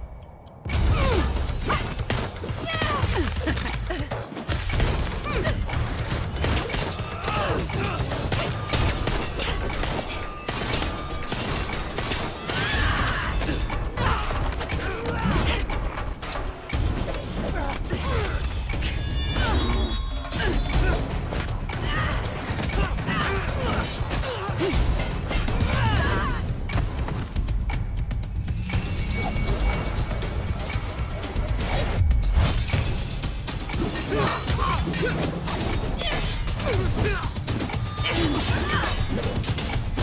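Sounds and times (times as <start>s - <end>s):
driving battle music: 0.0s - 40.0s
metal clashes: 0.6s - 27.4s, 28.4s - 40.0s.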